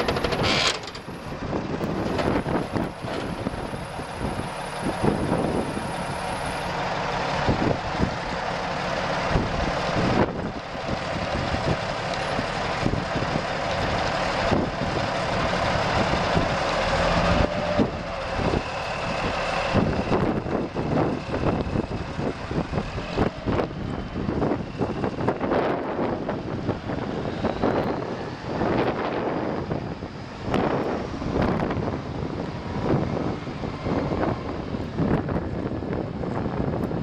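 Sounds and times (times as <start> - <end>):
diesel truck engine idling: 0.0 - 37.0.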